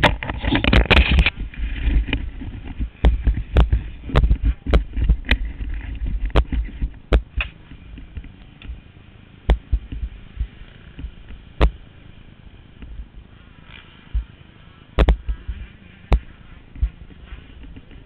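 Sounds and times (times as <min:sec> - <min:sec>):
sharp thumps: 0:00.0 - 0:08.8, 0:09.4 - 0:11.8, 0:12.8 - 0:18.0
distant motocross bike engines: 0:00.0 - 0:18.0.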